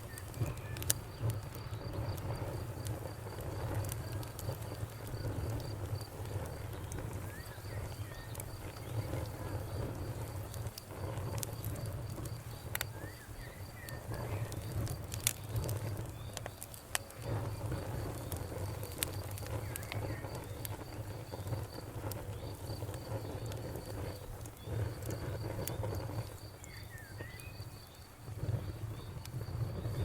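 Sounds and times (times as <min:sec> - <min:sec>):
crickets chirping: 0:00.0 - 0:30.0
low rumble of flames: 0:00.0 - 0:30.0
wood fire crackling and popping: 0:00.0 - 0:30.0.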